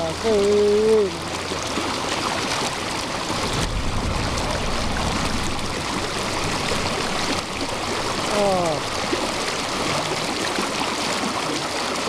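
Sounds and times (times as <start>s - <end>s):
shallow stream rushing: 0.0s - 12.0s.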